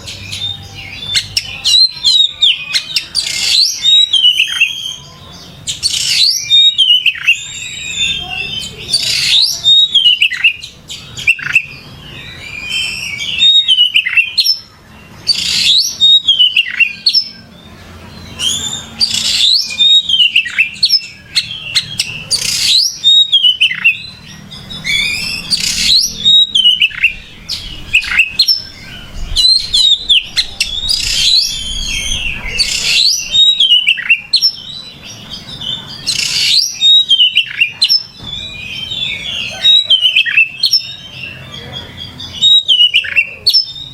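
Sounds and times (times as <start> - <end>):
magpie-robin singing: 0.0 - 43.9.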